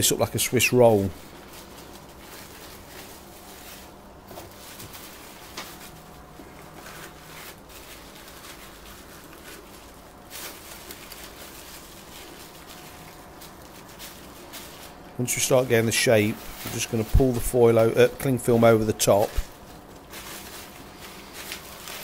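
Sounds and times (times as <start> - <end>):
cling film crinkling: 0.3 - 22.0.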